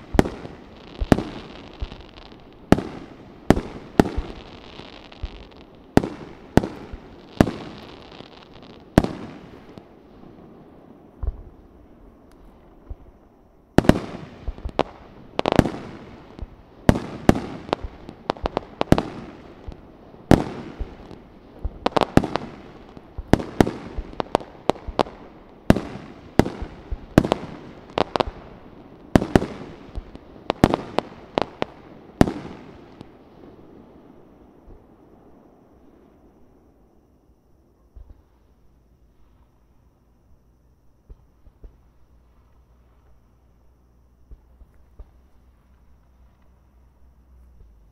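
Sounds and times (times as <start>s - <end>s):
fireworks bursting with sharp bangs: 0.0s - 39.8s, 40.6s - 47.9s.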